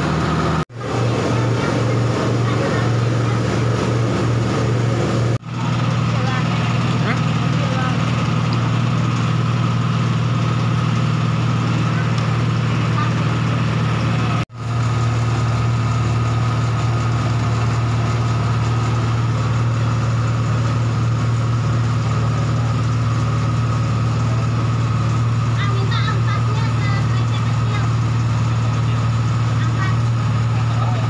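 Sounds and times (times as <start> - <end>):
machine motor drone: 0.0 - 31.0.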